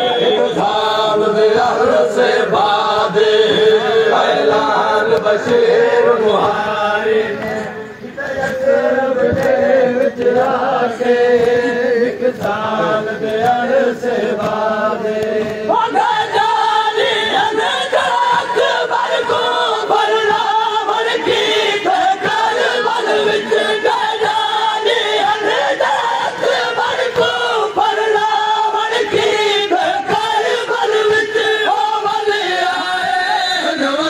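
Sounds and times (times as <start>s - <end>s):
men chanting together: 0.0s - 34.0s.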